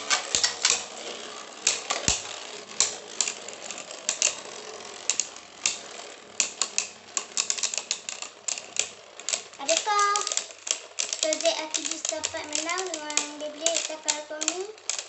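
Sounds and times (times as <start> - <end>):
spinning tops clicking: 0.0 - 15.0
spinning tops whirring scrape: 0.0 - 15.0.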